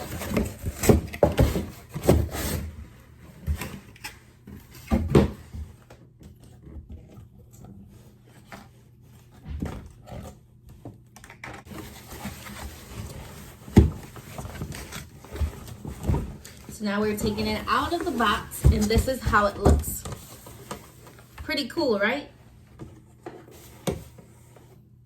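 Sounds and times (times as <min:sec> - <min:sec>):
cardboard scraping and rustling: 0:00.0 - 0:10.8, 0:11.6 - 0:21.5, 0:22.5 - 0:24.9.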